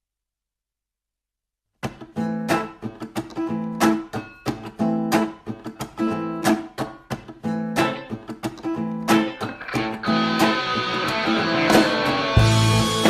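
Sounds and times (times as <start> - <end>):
acoustic guitar strumming music: 1.8 - 13.0.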